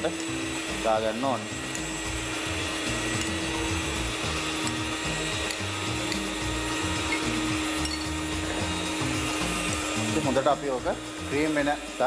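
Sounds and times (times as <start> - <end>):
electric hand mixer whirring: 0.0 - 12.0.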